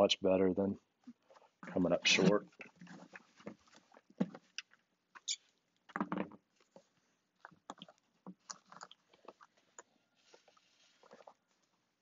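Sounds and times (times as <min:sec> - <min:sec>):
cord rustling and scraping: 0:01.0 - 0:11.9.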